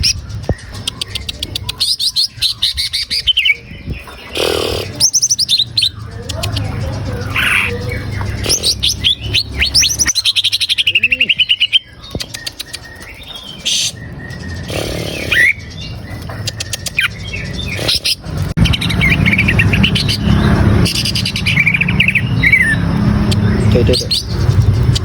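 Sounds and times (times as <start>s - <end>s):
bird trilling and whistling: 0.0s - 25.0s.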